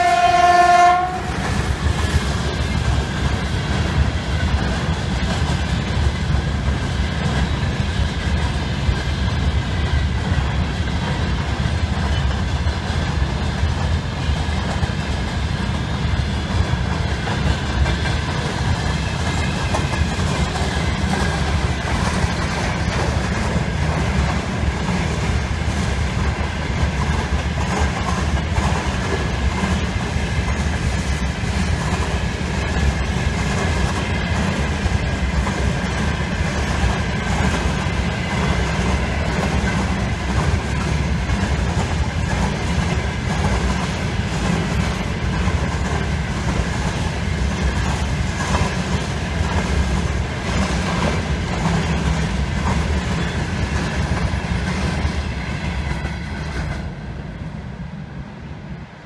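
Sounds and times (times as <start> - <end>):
freight train wheels rattling: 0.0 - 57.4.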